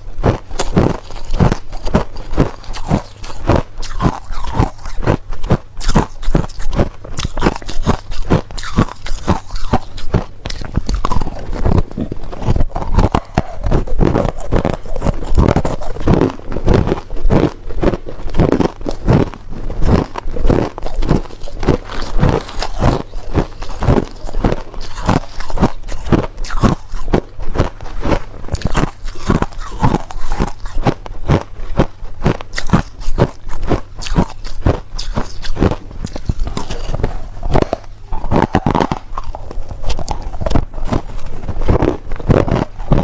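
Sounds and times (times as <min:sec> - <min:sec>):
person crunching ice: 0:00.0 - 0:43.0.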